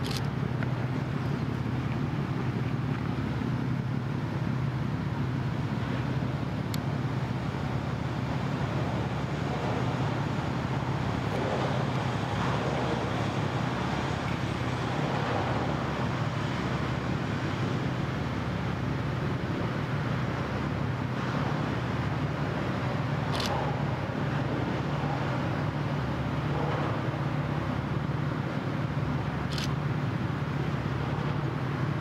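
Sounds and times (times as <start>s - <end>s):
low engine drone: 0.0s - 32.0s
outdoor background noise: 0.0s - 32.0s.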